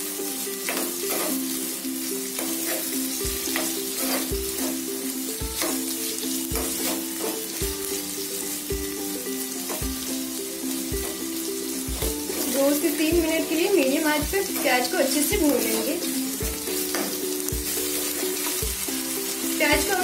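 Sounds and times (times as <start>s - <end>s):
metal spatula stirring in pan: 0.0s - 13.6s, 14.3s - 20.0s
background music with steady beat: 0.0s - 20.0s
onions sizzling in oil: 0.0s - 20.0s.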